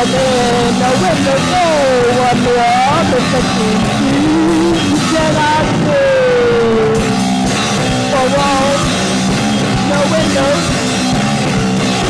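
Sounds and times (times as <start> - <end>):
goth rock band playing: 0.0 - 12.0.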